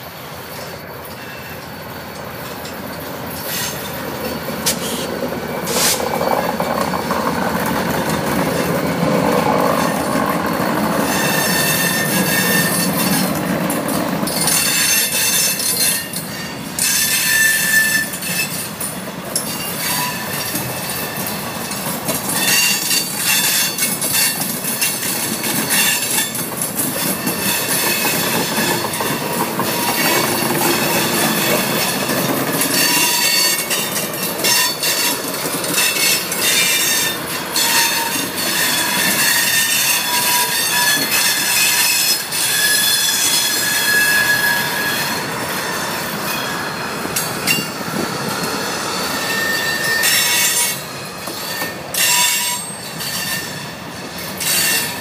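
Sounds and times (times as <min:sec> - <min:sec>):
diesel freight train rumble: 0:00.0 - 0:55.0
train wheels squealing: 0:00.0 - 0:55.0
wheels clicking over rail joints: 0:00.6 - 0:46.3.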